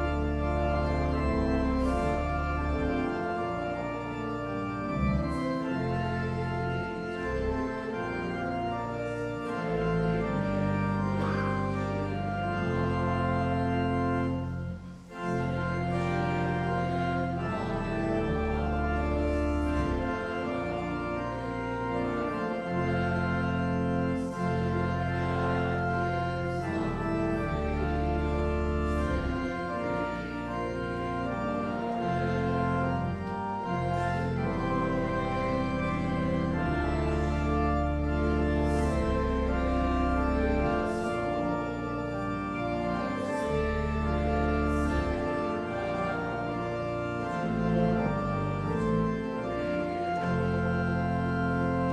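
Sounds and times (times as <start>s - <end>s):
church organ playing a hymn: 0.0s - 51.9s.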